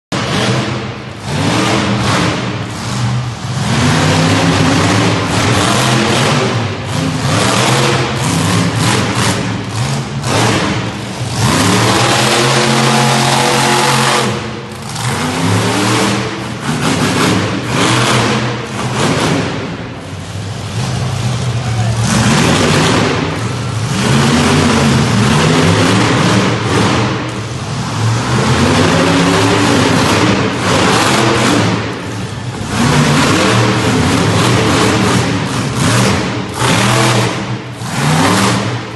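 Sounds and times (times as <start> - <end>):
monster truck engines revving: 0.0 - 38.9.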